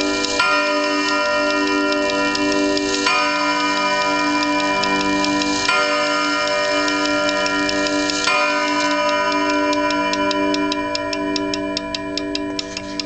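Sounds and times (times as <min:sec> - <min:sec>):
clock chime striking: 0:00.0 - 0:13.0
clock ticking: 0:00.0 - 0:13.0.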